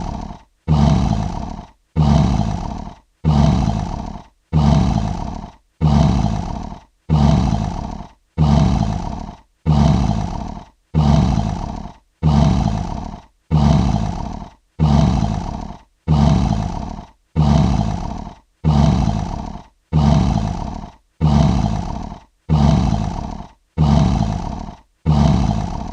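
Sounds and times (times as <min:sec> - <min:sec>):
lion roar: 0:00.0 - 0:25.9.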